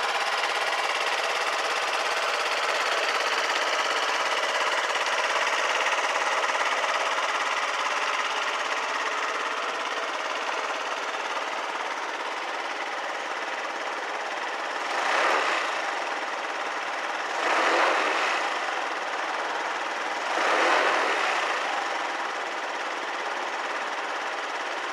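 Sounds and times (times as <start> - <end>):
scooter engine idling: 0.0 - 24.9.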